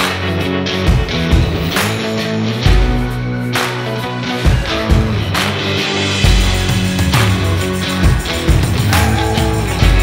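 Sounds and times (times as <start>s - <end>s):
rock music with sustained chords: 0.0s - 10.0s.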